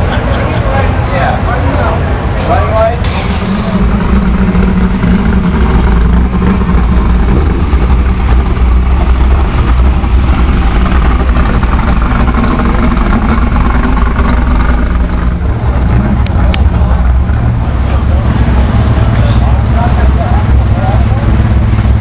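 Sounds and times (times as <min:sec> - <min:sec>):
truck engines rumbling: 0:00.0 - 0:22.0.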